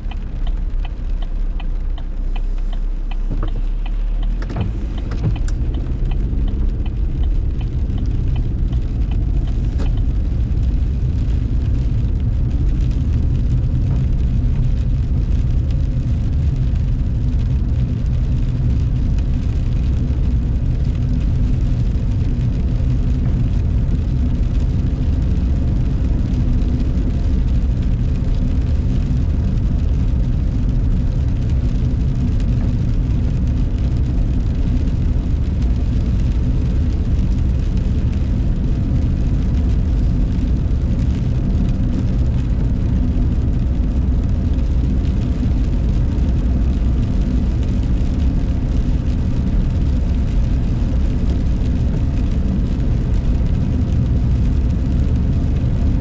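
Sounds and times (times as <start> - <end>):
engine and tyre rumble: 0.0 - 56.0.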